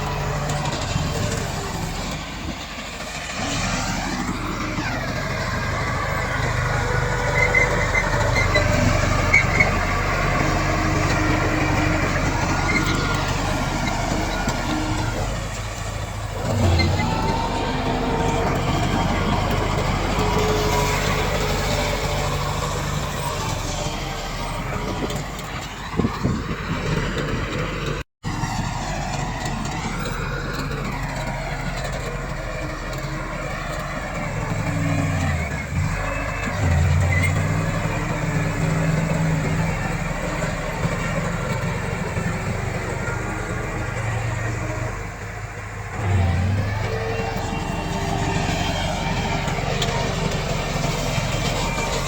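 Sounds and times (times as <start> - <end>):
bulldozer diesel engine under load: 0.0 - 52.0.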